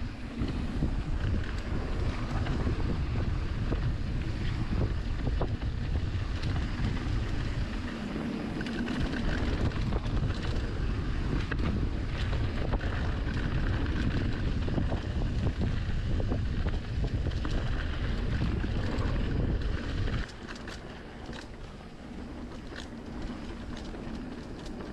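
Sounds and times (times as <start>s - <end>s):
bike rattling on rough trail: 0.0s - 24.9s
wind buffeting microphone: 0.0s - 24.9s.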